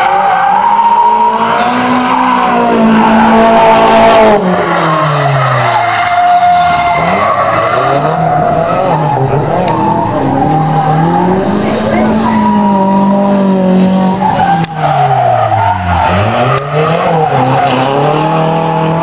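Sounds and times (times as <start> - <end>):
car engine revving: 0.0 - 19.0
tyres squealing and skidding: 0.0 - 19.0.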